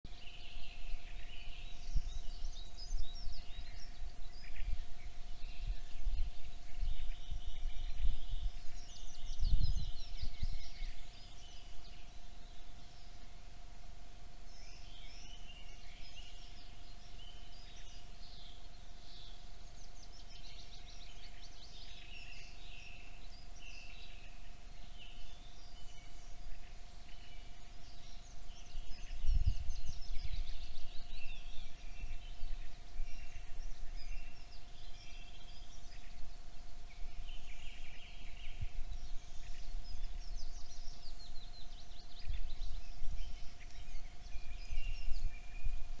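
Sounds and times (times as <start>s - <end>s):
songbirds singing: 0.0s - 46.0s
faint steady hum: 0.1s - 46.0s.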